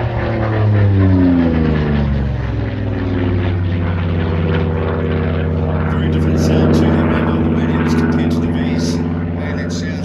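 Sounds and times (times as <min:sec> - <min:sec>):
radial aircraft engine drone: 0:00.0 - 0:10.0.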